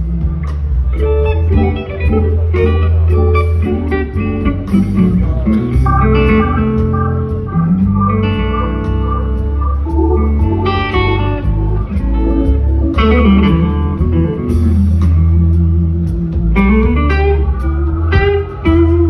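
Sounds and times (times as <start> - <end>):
bass: 0.0 - 19.0
drums: 0.0 - 19.0
electric blues guitar: 0.0 - 19.0.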